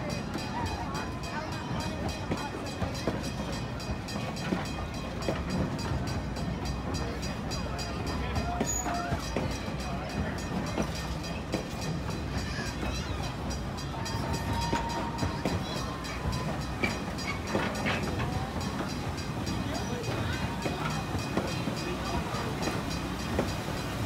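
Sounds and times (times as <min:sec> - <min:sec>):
train rumbling and rattling: 0:00.0 - 0:24.0.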